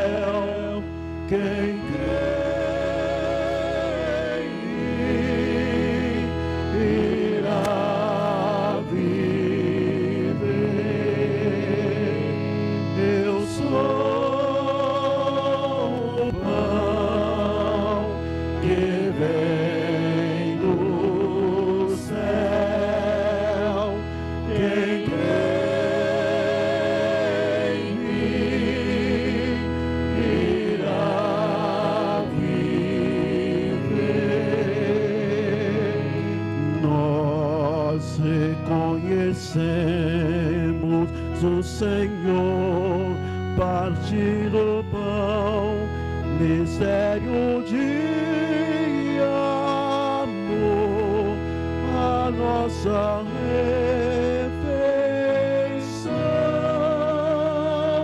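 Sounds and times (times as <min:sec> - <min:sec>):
choir singing a hymn: 0:00.0 - 0:58.0
sustained low accompaniment notes: 0:00.0 - 0:58.0.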